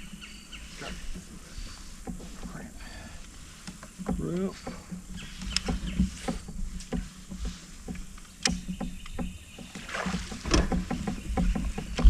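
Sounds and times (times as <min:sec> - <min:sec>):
fishing gear ticks and knocks: 0:00.0 - 0:12.0.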